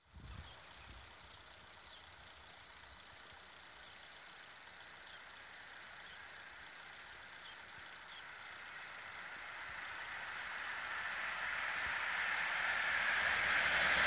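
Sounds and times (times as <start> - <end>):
distant train rumble and hiss: 0.0 - 14.0.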